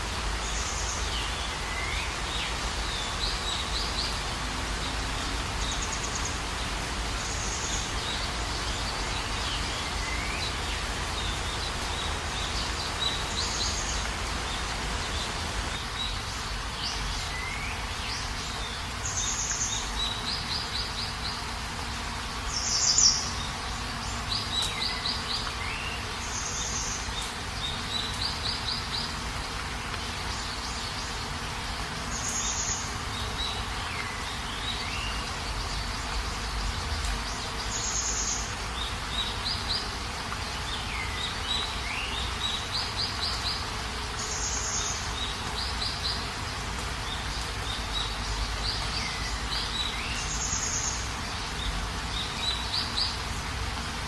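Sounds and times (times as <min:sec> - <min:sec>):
insects chirping: 0:00.0 - 0:53.9.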